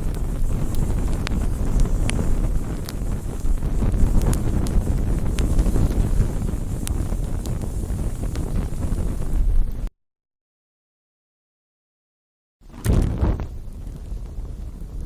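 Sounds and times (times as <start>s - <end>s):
campfire crackling and popping: 0.0s - 9.9s, 12.7s - 15.0s
fire low rumble: 0.0s - 9.9s, 12.6s - 15.0s.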